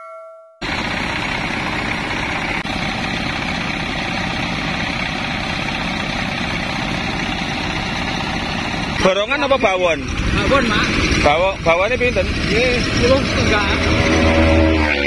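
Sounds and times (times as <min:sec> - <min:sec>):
threshing machine running: 0:00.6 - 0:15.0.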